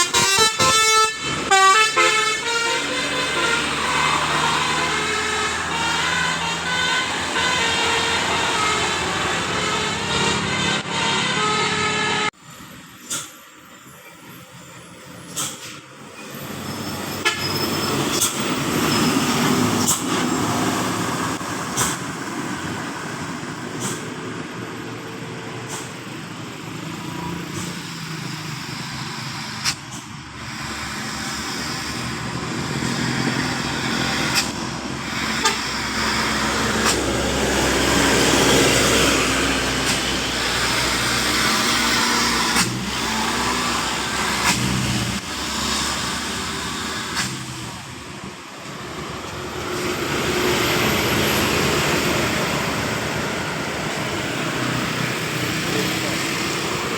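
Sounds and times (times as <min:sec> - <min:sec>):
heavy road traffic: 0:00.0 - 0:56.9.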